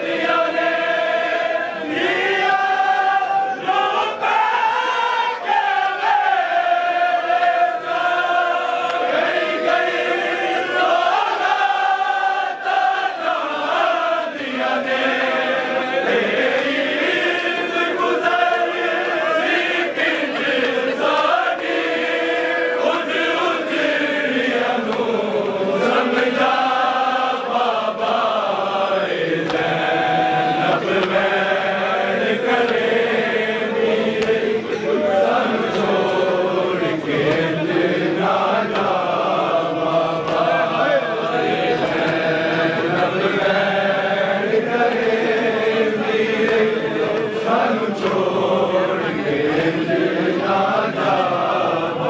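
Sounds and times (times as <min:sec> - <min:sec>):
men chanting in unison: 0:00.0 - 0:52.0.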